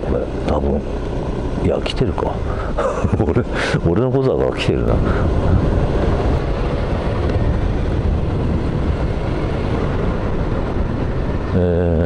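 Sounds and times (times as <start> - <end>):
scooter engine cruising: 0.0 - 12.0
wind and road noise: 0.0 - 12.0.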